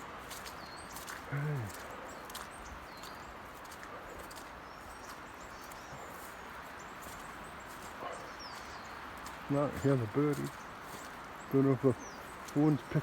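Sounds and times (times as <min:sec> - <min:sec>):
soft footsteps: 0:00.0 - 0:13.0
steady outdoor hiss: 0:00.0 - 0:13.0.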